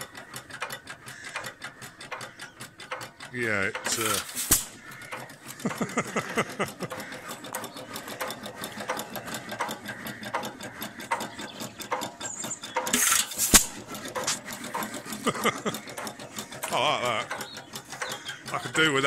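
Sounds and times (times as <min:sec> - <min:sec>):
engine valve gear clicking: 0:00.0 - 0:19.0.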